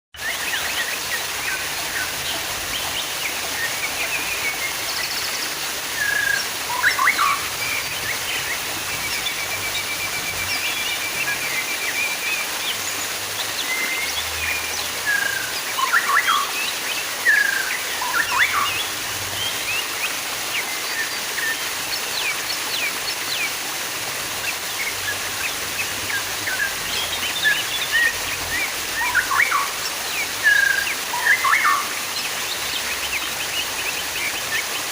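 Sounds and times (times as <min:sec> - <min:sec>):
small birds chirping: 0:00.1 - 0:34.9
running water: 0:00.2 - 0:34.9.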